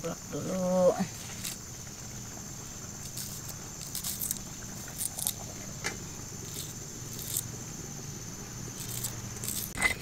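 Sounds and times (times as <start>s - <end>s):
steady high-pitched hum: 0.0s - 10.0s.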